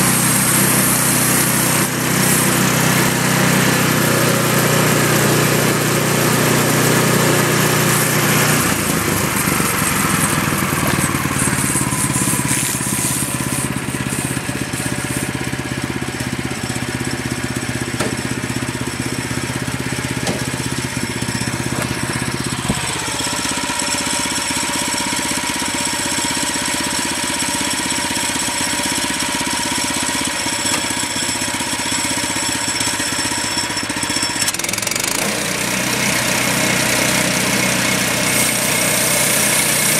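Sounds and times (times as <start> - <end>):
bandsaw blade sawing log: 0.0 - 39.9
gas engine running under load: 0.0 - 39.9.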